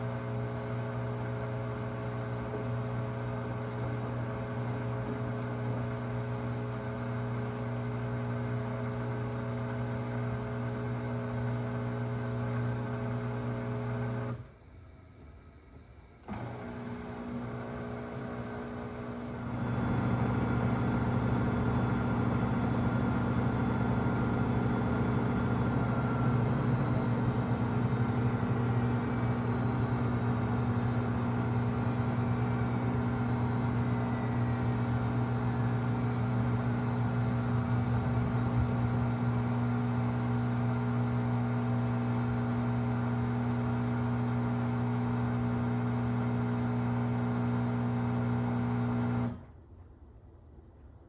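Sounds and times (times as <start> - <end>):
washing machine low buzz: 0.0 - 49.6.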